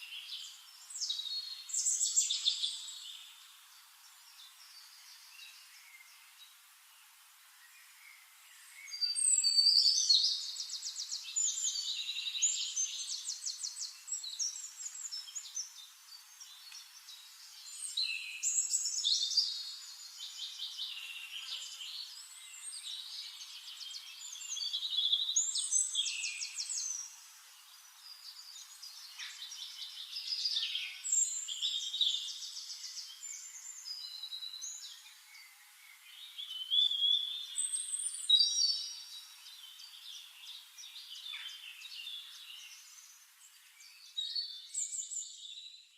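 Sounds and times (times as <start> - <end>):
songbird trilling and chirping: 0.0 - 3.5, 8.7 - 45.9.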